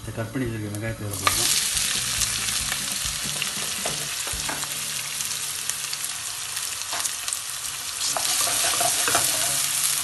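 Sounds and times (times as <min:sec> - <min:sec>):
onions sizzling in hot oil: 0:00.8 - 0:10.0.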